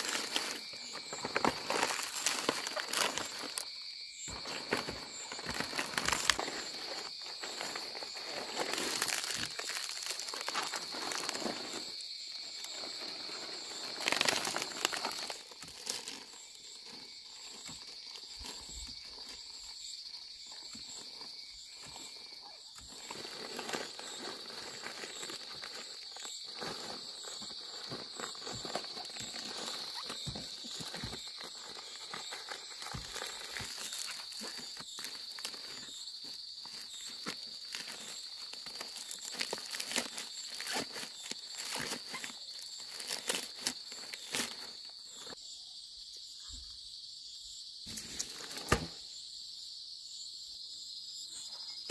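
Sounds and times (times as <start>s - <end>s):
palm leaves rustling: 0.0s - 19.8s, 20.6s - 45.4s.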